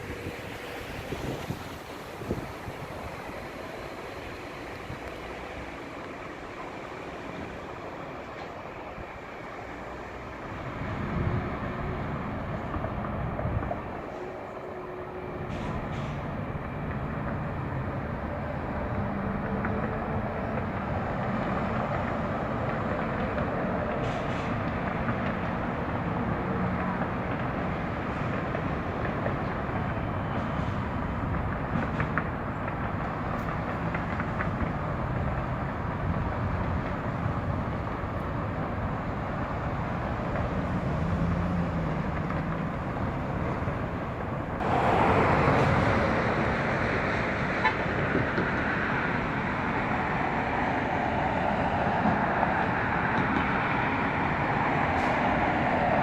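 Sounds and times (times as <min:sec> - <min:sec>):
traffic noise with engine hum: 0:00.0 - 0:56.0.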